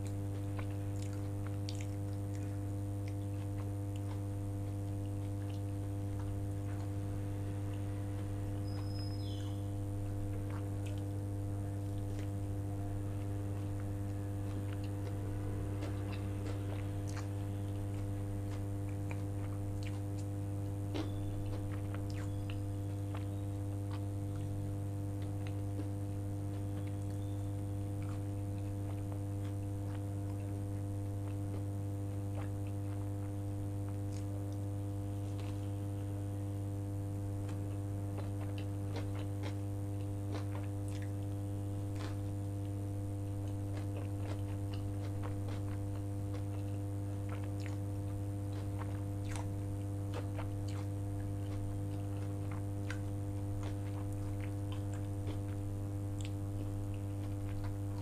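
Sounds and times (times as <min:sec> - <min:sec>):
chewing soft food: 0:00.0 - 0:58.0
low electrical hum: 0:00.0 - 0:58.0.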